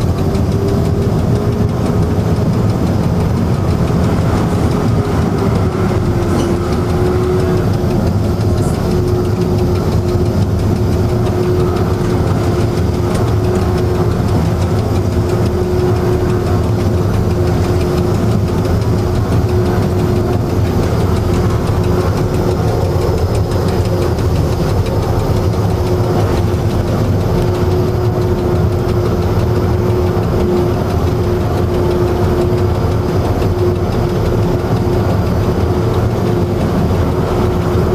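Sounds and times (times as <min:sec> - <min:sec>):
locomotive engine idling: 0:00.0 - 0:37.9.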